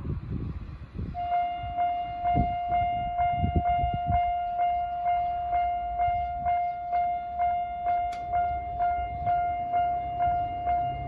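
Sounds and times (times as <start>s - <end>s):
railroad crossing warning bell: 1.2s - 11.0s.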